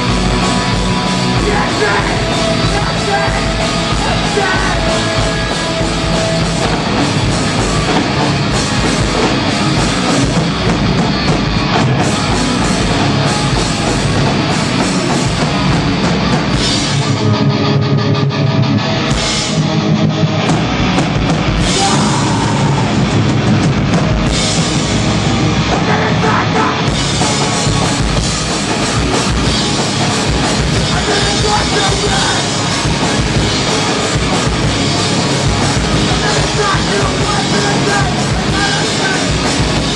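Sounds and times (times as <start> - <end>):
loud rock music: 0.0 - 39.9.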